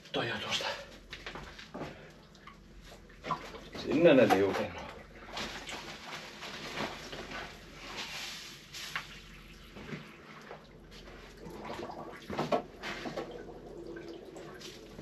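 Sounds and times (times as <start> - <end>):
water splashing in plastic tank: 1.2 - 15.0.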